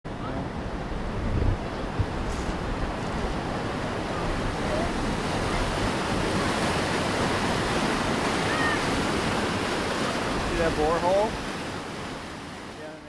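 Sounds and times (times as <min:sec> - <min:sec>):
whitewater rushing through rocks: 0:00.1 - 0:13.0.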